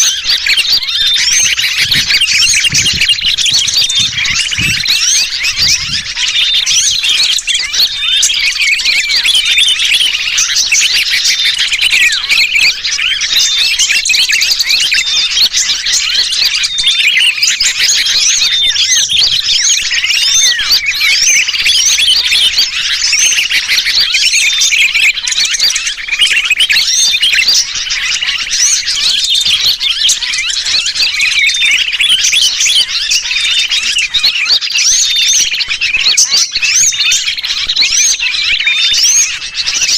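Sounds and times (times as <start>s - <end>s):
bird distress calls: 0.0s - 39.9s
chorus of small birds chirping: 0.0s - 39.9s.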